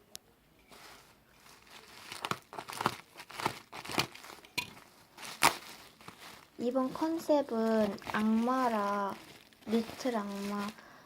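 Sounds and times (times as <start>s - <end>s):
packaging tearing and crinkling: 0.7s - 10.9s.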